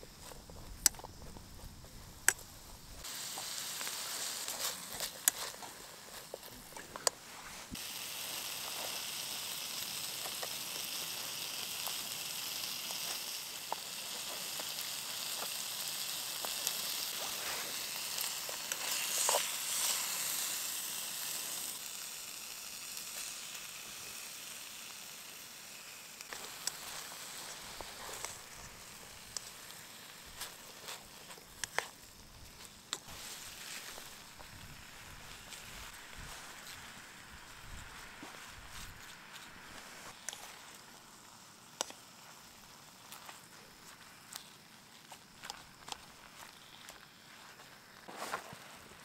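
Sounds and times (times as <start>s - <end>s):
food sizzling in a pan: 2.2s - 49.0s.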